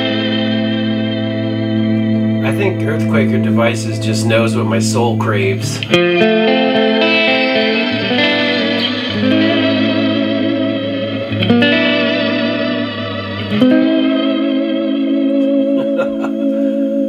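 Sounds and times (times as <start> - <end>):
electric guitar chords with reverb: 0.0 - 17.0.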